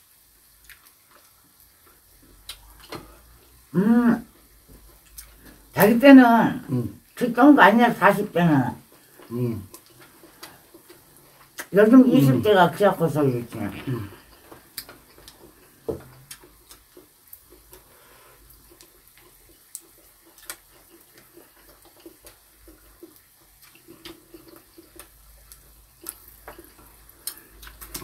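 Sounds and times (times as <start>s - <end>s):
faint chewing: 0.4s - 5.8s, 8.8s - 12.4s, 13.7s - 28.0s.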